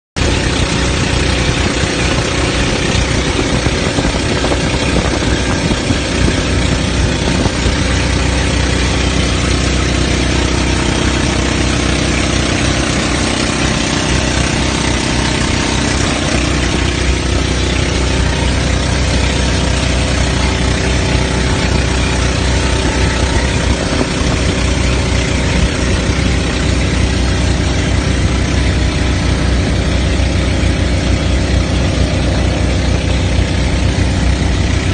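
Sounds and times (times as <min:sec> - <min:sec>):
boat engine droning: 0:00.2 - 0:34.9
water rushing: 0:00.2 - 0:34.9.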